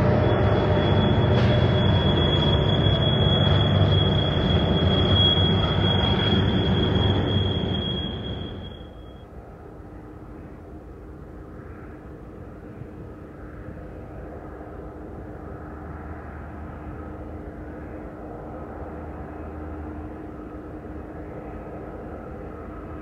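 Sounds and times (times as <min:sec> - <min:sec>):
diesel locomotives rumbling: 0:00.0 - 0:23.0.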